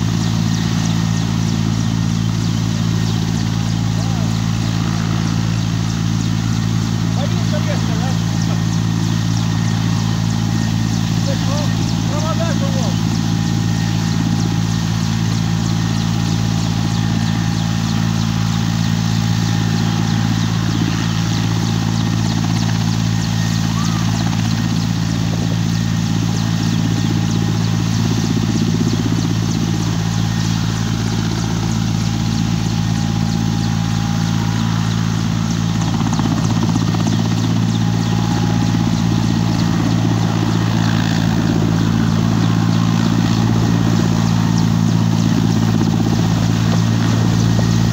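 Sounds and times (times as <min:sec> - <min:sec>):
helicopter engine and rotor hum: 0:00.0 - 0:47.9.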